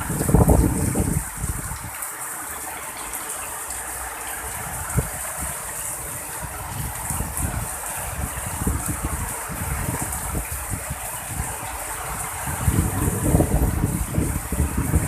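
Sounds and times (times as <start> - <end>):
wind buffeting microphone: 0.0 - 2.1, 3.6 - 15.0
heavy rain pouring: 0.0 - 15.0.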